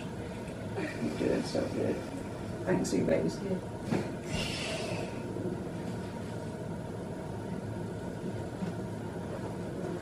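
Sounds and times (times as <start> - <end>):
room noise hum and hiss: 0.0 - 10.0.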